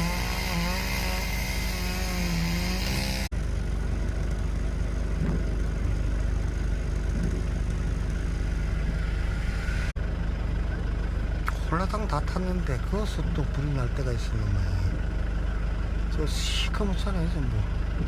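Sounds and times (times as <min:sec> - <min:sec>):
engine running with wavering pitch: 0:00.0 - 0:18.0
steady low rumble: 0:03.3 - 0:18.0.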